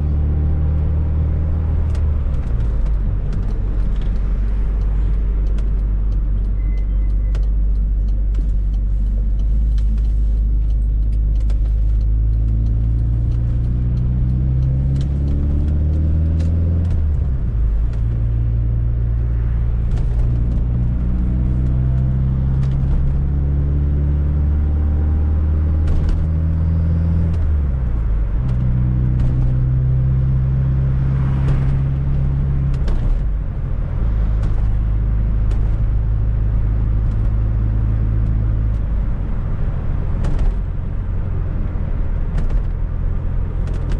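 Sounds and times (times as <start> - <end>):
car engine revving through gears: 0.0 - 43.9.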